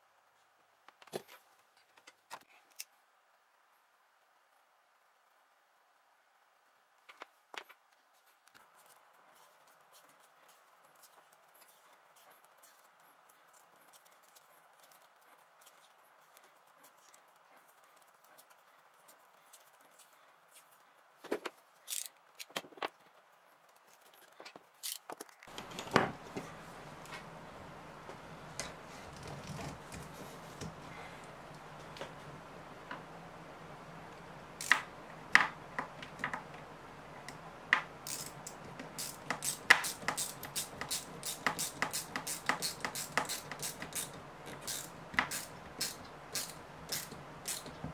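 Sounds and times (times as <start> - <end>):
steady low background noise: 0.0 - 47.9.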